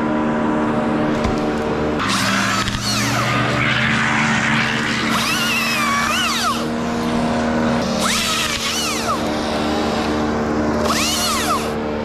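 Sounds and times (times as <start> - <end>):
chainsaw revving: 1.0 - 12.0.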